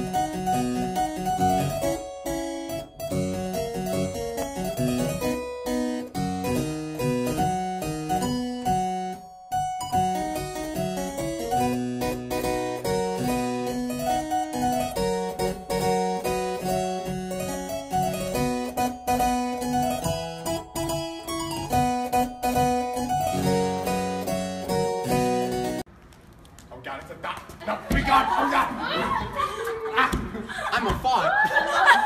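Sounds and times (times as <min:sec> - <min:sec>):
lively harpsichord music: 0:00.0 - 0:25.9.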